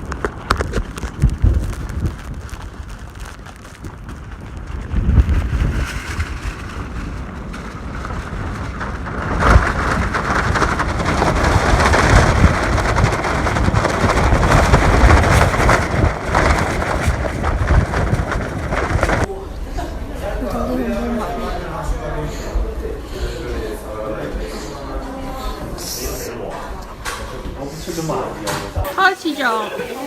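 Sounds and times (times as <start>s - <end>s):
heavy rain: 0.0s - 27.8s, 28.4s - 30.0s
wind gusting on microphone: 0.0s - 29.2s.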